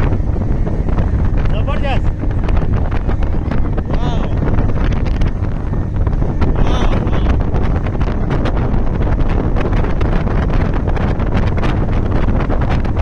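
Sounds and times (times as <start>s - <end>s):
motorboat running across water: 0.0s - 13.0s
wind buffeting microphone: 0.0s - 13.0s.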